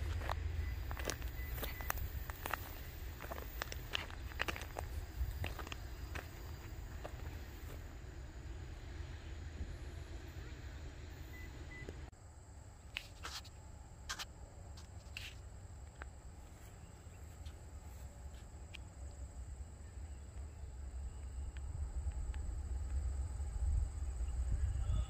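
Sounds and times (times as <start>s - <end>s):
high insect drone: 0.0s - 25.0s.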